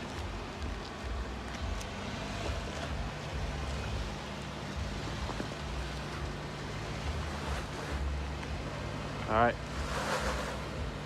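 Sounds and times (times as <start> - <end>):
engine running low: 0.0 - 11.0
tyres crunching on rock and gravel: 0.0 - 11.0.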